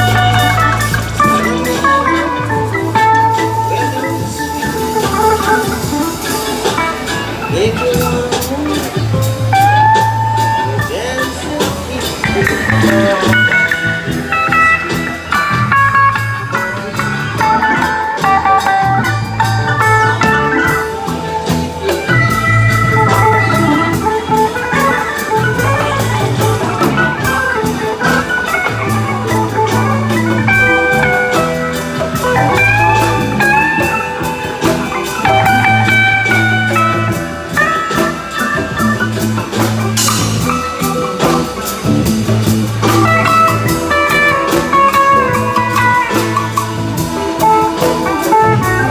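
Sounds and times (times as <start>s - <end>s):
lead guitar with bent notes: 0.0s - 48.9s
live blues band: 0.0s - 48.9s.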